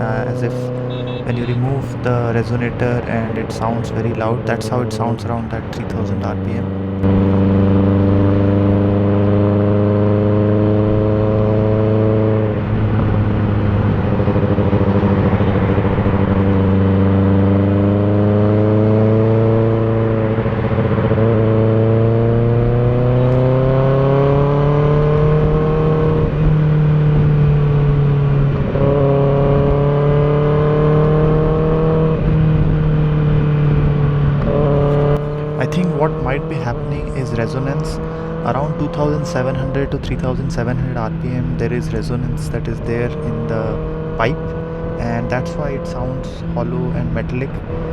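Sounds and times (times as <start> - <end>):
motorcycle engine drone: 0.0 - 47.9.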